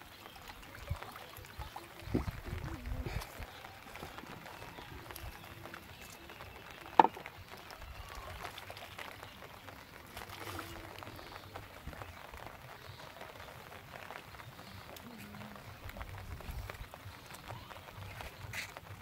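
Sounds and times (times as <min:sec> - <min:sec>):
water dripping onto water: 0:00.0 - 0:19.0.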